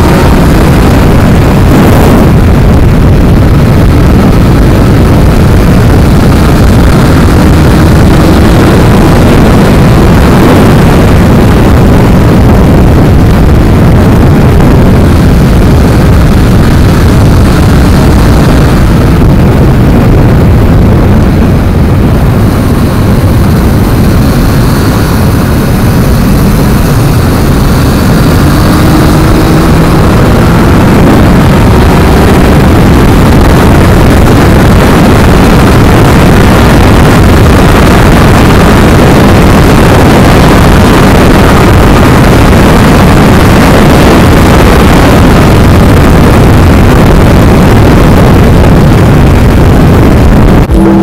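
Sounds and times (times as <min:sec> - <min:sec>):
heavy wind noise on microphone: 0:00.0 - 0:51.0.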